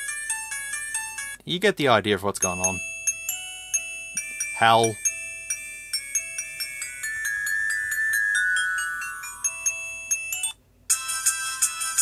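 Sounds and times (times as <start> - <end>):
phone ringtone melody: 0.0 - 1.4, 2.4 - 12.0.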